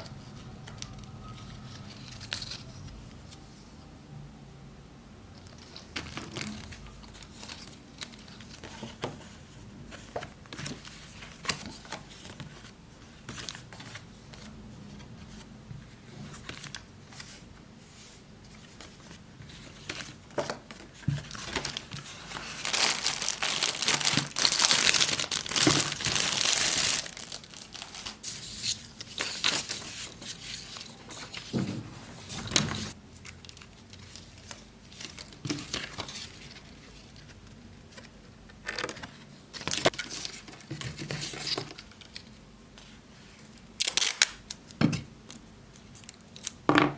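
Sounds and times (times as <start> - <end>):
crinkling and rustling: 0.0 - 3.7, 5.4 - 46.7.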